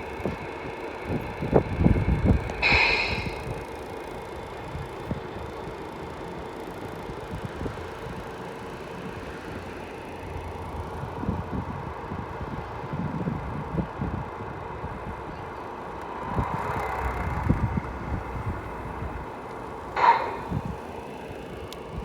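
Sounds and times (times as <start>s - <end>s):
model truck rumbling: 0.0s - 22.0s.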